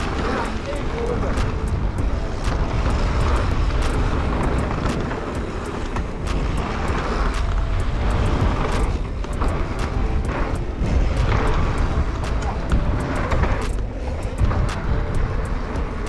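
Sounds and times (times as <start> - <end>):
bike clicks and rattles: 0.0 - 16.0
bike tyres rolling on gravel: 0.0 - 16.0
wind buffeting microphone: 0.0 - 16.0.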